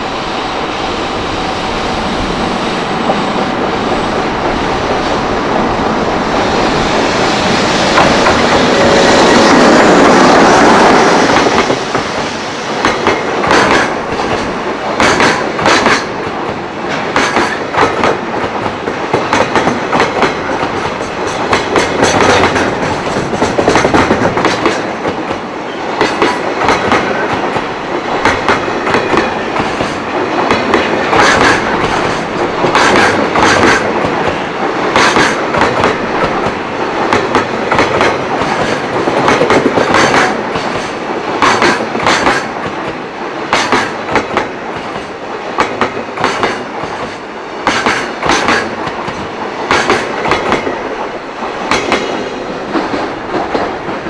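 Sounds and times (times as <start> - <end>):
train running rumble: 0.0 - 54.0
train wheels clacking over joints: 2.2 - 54.0.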